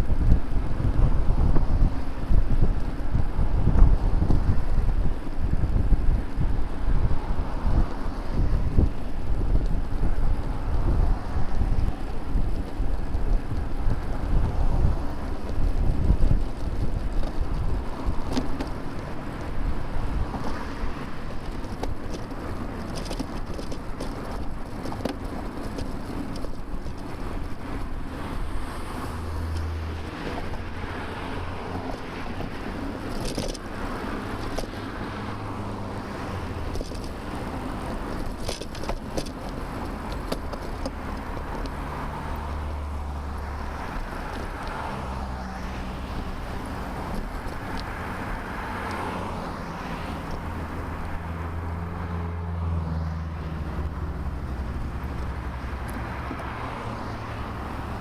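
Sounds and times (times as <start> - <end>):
bicycle clicks and rattles: 0.0 - 42.5, 43.4 - 51.6
traffic passing: 0.0 - 58.0
wind on microphone: 0.0 - 58.0.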